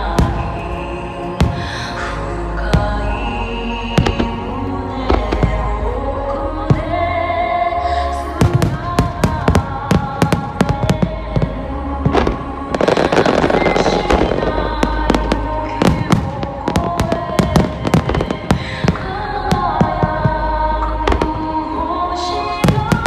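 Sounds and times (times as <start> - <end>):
music playing: 0.0 - 23.0.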